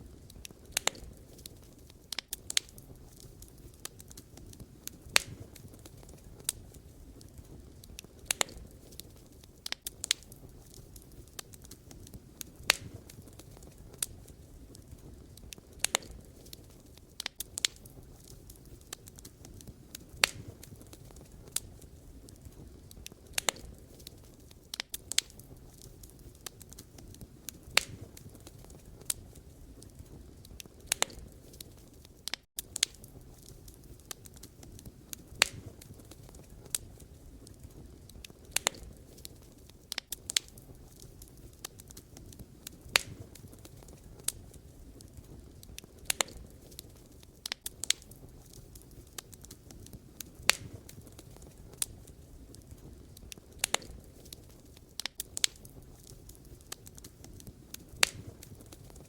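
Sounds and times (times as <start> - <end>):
fire rumble and hiss: 0.0 - 59.0
logs crackling and popping: 0.0 - 59.0.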